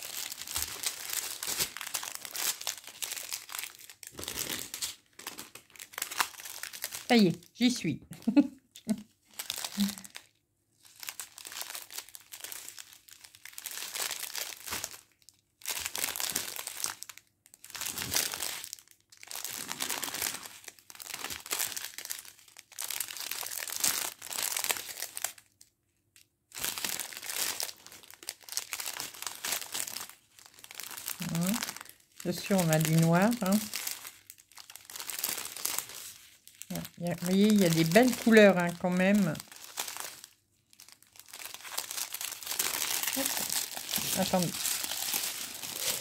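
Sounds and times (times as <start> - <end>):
plastic sachets crinkling: 0.0 - 7.5, 8.3 - 46.0.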